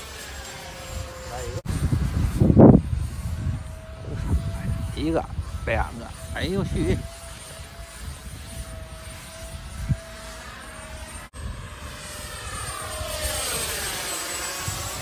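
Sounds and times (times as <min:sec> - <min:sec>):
model jet engine whining: 0:00.0 - 0:15.0.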